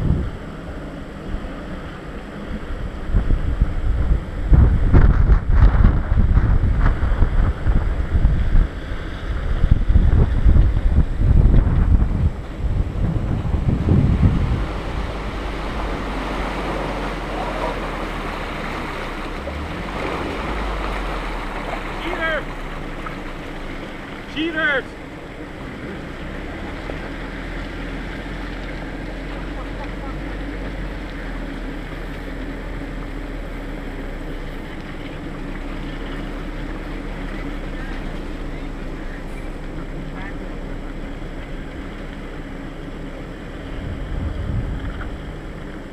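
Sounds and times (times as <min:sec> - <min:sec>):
low engine rumble: 0:00.0 - 0:45.9
water sloshing around tyres: 0:00.0 - 0:45.9
wind buffeting microphone: 0:00.0 - 0:45.9.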